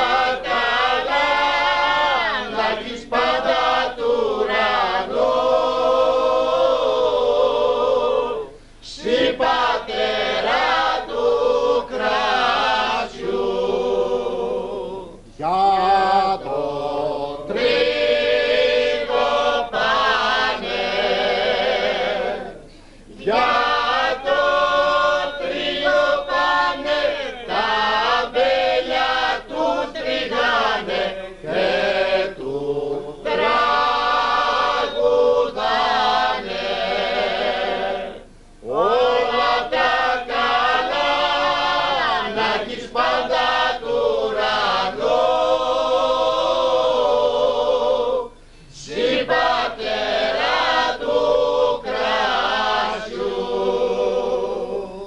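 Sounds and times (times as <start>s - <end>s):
group of men singing: 0.0s - 55.0s.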